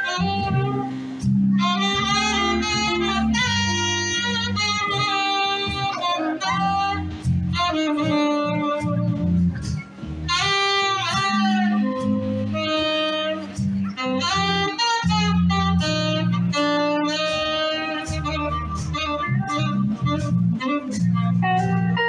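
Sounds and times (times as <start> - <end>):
band with guitar bass and drums: 0.0 - 22.0
saxophone melody: 0.0 - 22.0.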